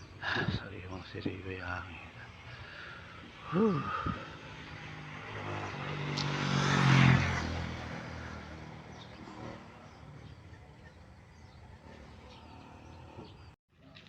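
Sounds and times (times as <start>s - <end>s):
vehicle passing by: 0.0s - 13.6s.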